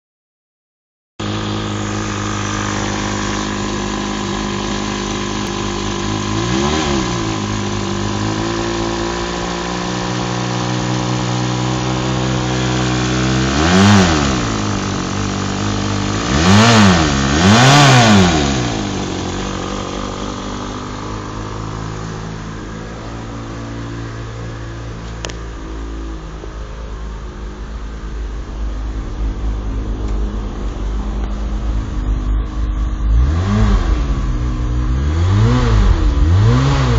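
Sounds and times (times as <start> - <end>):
car engine idling and revving: 1.2 - 36.9.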